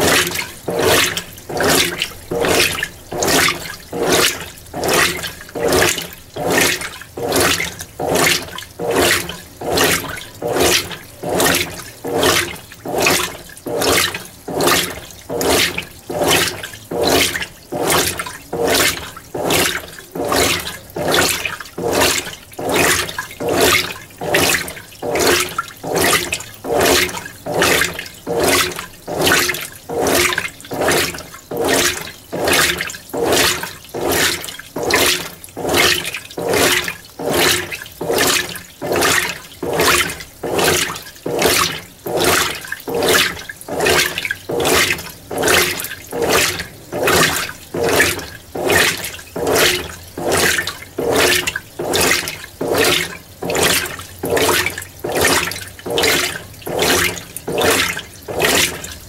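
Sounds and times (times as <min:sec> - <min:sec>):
washing machine water sloshing: 0:00.0 - 0:59.0.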